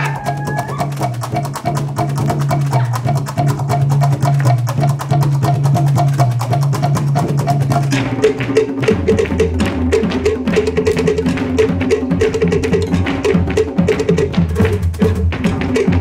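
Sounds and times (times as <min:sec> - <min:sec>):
deep drum: 0:00.0 - 0:16.0
fast wooden slit drums: 0:00.0 - 0:16.0.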